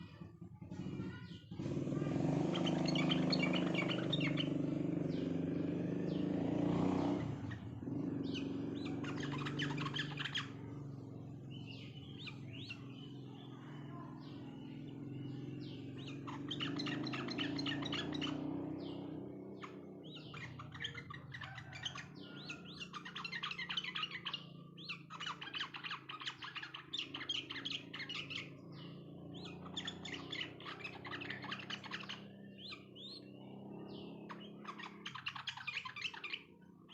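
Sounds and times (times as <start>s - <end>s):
birds chattering chirps: 0.0s - 36.9s.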